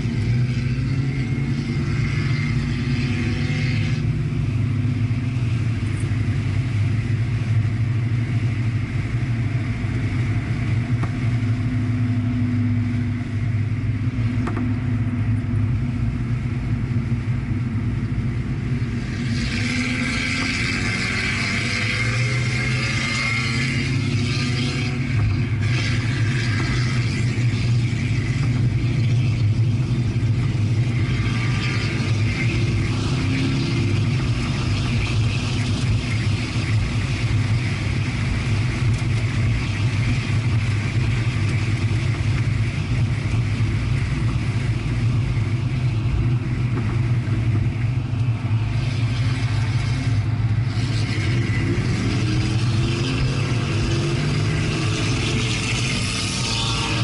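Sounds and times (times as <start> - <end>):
car engine drone from cabin: 0.0 - 57.0.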